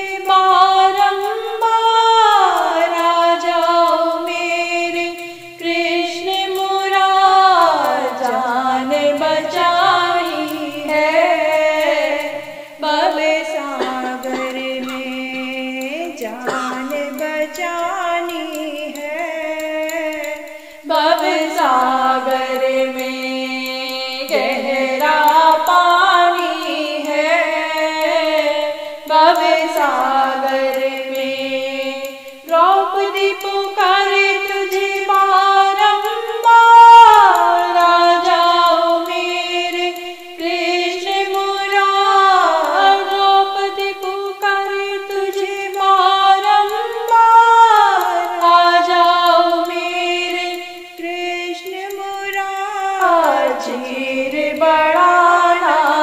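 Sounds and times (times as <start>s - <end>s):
woman singing devotional song: 0.0s - 56.0s.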